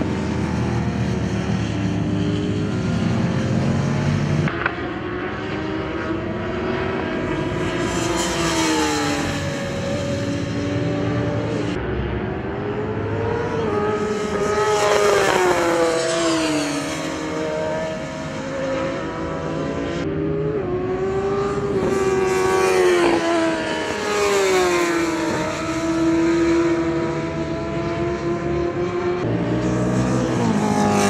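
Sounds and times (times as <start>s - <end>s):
racing motorcycles passing at high revs: 0.0s - 31.0s.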